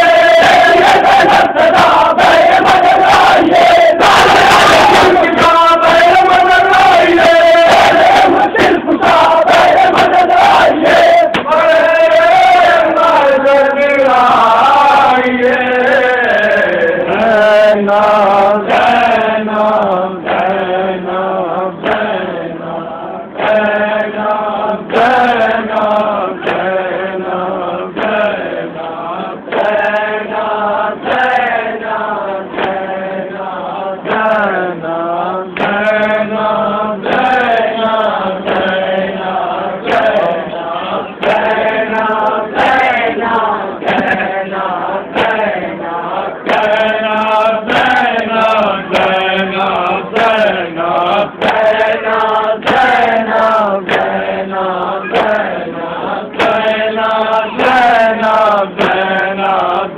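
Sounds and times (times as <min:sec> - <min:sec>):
lead reciter singing: 0:00.0 - 0:59.9
men chanting in unison: 0:00.0 - 0:59.9.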